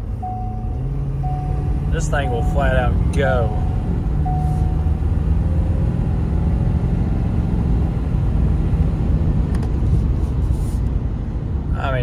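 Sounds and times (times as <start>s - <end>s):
engine and road noise droning: 0.0s - 12.0s.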